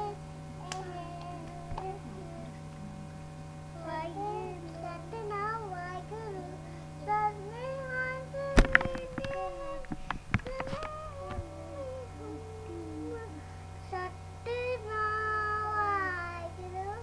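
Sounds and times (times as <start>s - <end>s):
child singing: 0.0s - 2.6s, 3.8s - 17.0s
steady low hum: 0.0s - 17.0s.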